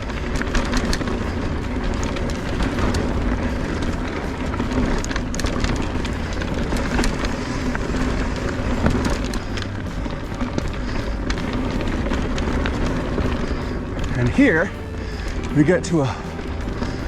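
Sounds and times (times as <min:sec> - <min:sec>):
bike tyres rumbling over rock: 0:00.0 - 0:17.0.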